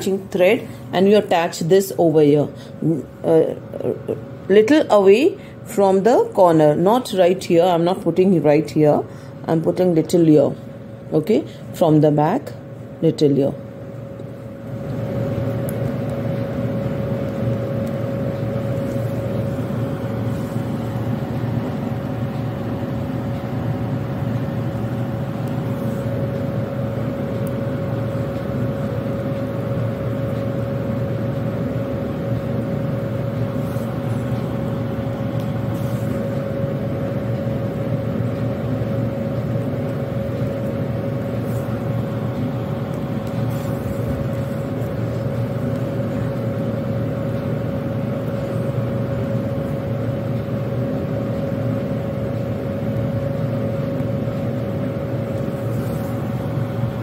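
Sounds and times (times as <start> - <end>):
steady machine drone: 0.0 - 57.0.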